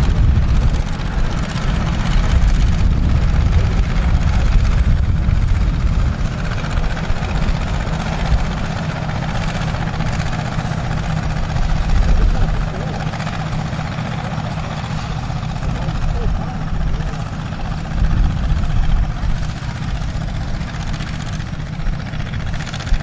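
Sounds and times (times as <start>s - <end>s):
combine machinery noise: 0.0s - 23.0s
tractor engine drone: 0.0s - 23.0s.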